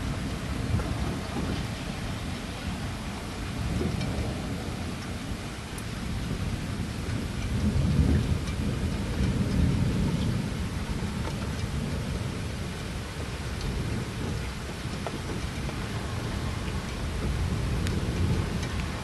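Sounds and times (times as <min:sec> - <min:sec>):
distant thunder rumbling: 0:00.0 - 0:19.0
rain hiss: 0:00.0 - 0:19.0
raindrops ticking: 0:00.0 - 0:19.0.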